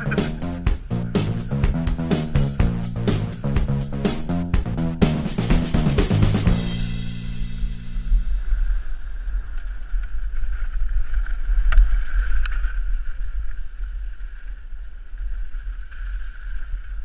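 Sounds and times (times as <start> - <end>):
wind rumble: 0.0 - 17.0.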